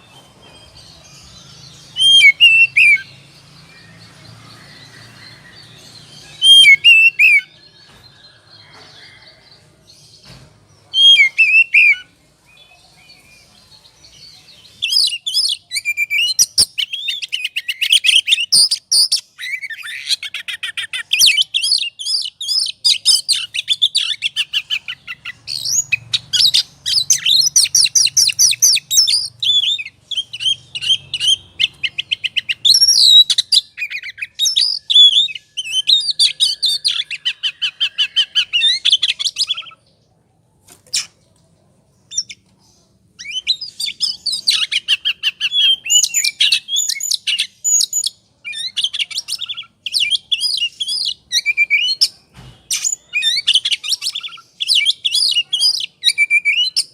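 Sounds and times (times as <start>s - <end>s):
bird singing chirps and whistles: 0.0s - 7.9s, 10.9s - 13.5s, 14.6s - 39.8s, 43.2s - 56.9s.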